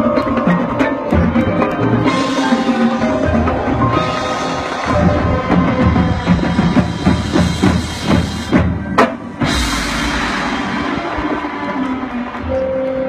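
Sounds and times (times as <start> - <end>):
marching band drums: 0.0 - 12.4.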